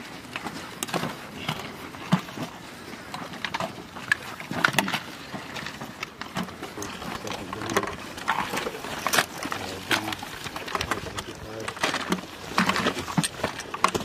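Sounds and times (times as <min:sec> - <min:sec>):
gear clicking and rattling: 0:00.3 - 0:14.0.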